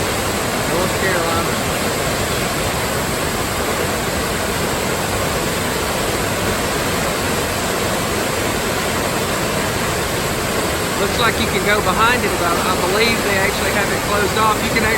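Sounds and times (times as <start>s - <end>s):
rush of falling water: 0.0s - 14.9s.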